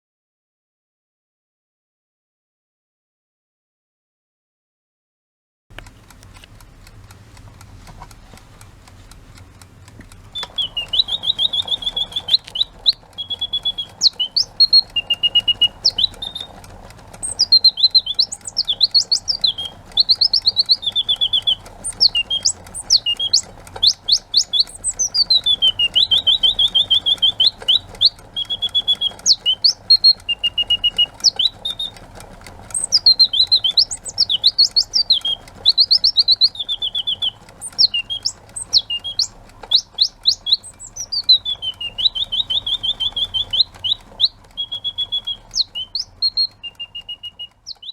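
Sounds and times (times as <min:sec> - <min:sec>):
alarm clock bird chirps: 0:08.6 - 0:47.9.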